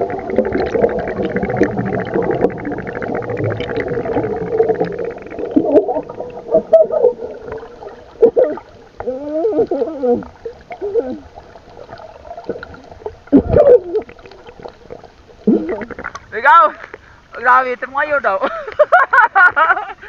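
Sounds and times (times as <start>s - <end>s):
muffled wavering tones: 0.0s - 16.2s
underwater air bubbles gurgling: 0.0s - 16.3s.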